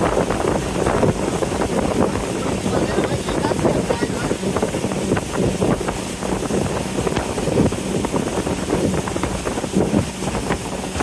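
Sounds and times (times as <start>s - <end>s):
boat engine hum: 0.0s - 11.0s
river water splashing along hull: 0.0s - 11.0s
wind on microphone: 0.0s - 11.0s.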